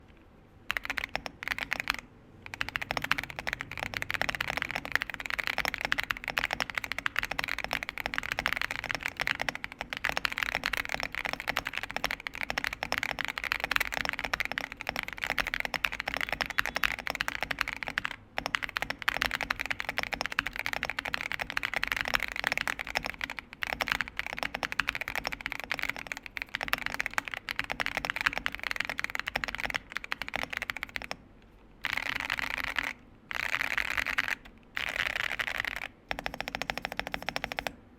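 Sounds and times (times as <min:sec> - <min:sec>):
typing on mechanical keyboard: 0:00.7 - 0:31.2, 0:31.8 - 0:37.8.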